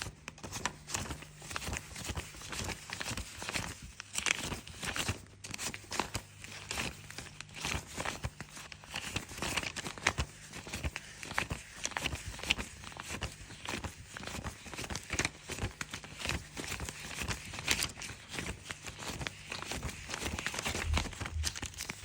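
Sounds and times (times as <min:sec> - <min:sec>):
banknotes rustling being counted: 0:00.0 - 0:22.0.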